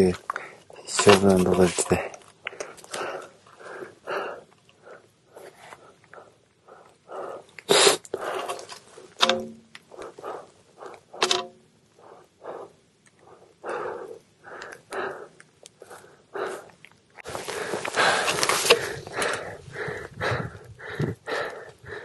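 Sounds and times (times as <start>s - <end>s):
person breathing hard: 2.5s - 8.7s, 9.9s - 11.3s, 12.0s - 22.0s.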